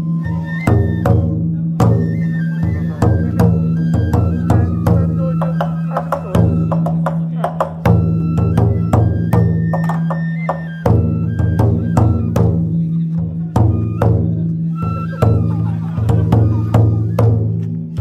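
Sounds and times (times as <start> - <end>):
high flute melody: 0.0 - 18.0
taiko drum beaten with sticks: 0.0 - 18.0.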